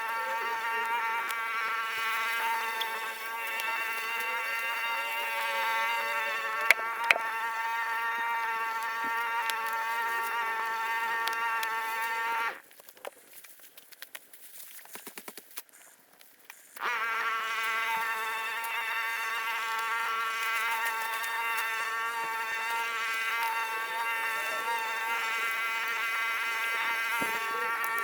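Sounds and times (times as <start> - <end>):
small motor buzzing: 0.0 - 12.6, 16.7 - 28.0.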